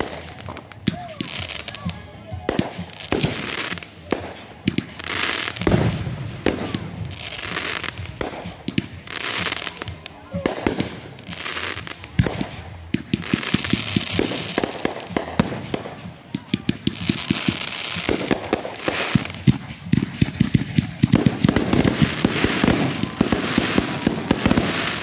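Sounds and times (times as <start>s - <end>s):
fireworks hissing: 0.0s - 25.0s
fireworks launching and bursting: 0.0s - 25.0s.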